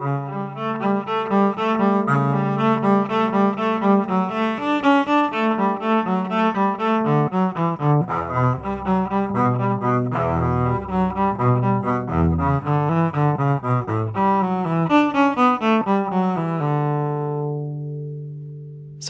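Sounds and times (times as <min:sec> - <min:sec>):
bowed electric cello: 0:00.0 - 0:19.0.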